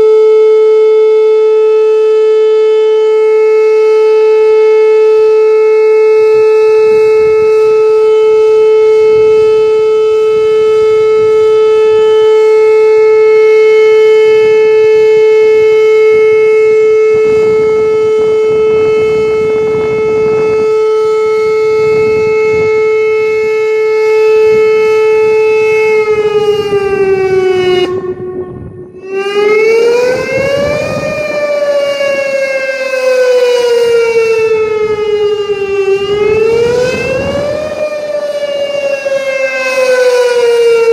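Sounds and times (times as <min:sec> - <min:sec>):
tornado warning siren: 0:00.0 - 0:40.9.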